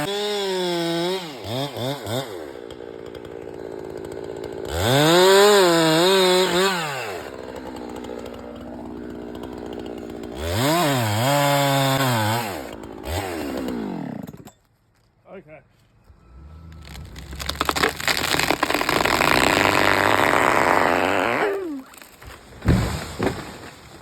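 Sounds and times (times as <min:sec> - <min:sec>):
chainsaw revving and idling: 0:00.0 - 0:14.5, 0:16.3 - 0:22.1.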